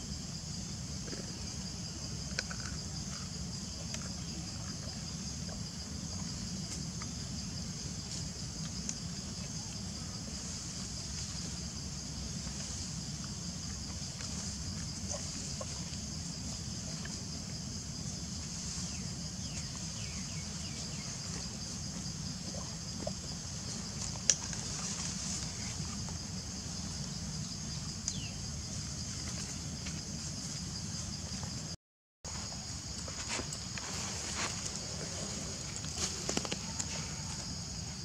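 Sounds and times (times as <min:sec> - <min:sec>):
high-pitched insect chorus: 0:00.0 - 0:38.0.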